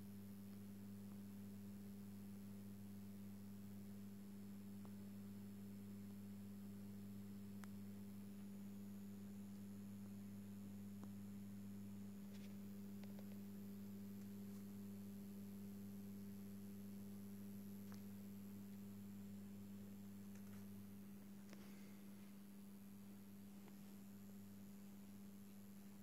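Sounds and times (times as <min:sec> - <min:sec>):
lamp ballast mains hum: 0:00.0 - 0:26.0.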